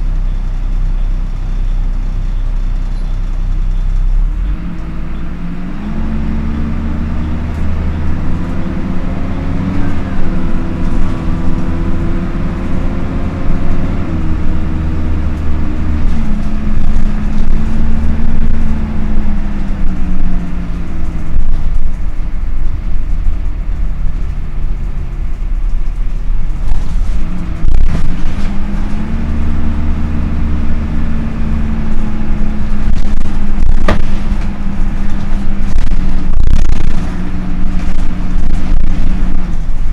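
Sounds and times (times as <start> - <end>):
bus engine running: 0.0 - 39.9
engine cooling fan: 5.6 - 39.9.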